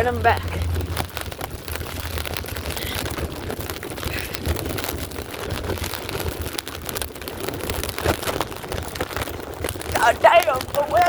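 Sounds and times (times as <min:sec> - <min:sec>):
heavy rain falling: 0:00.0 - 0:11.0
wind buffeting microphone: 0:00.0 - 0:11.0.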